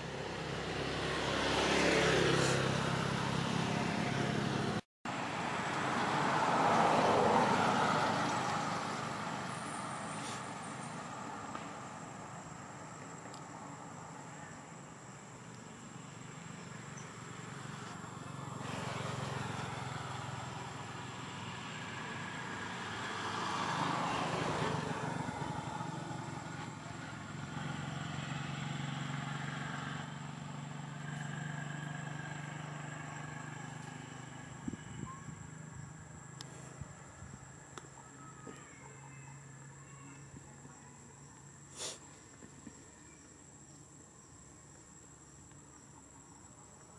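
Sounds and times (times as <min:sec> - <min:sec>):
vehicles passing: 0:00.0 - 0:46.9.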